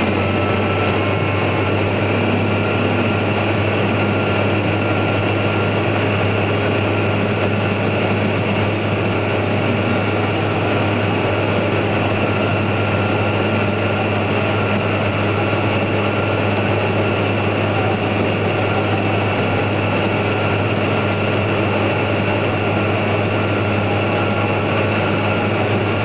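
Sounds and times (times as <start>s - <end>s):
combine harvester cutting: 0.0s - 26.0s
tractor engine running under load: 0.0s - 26.0s.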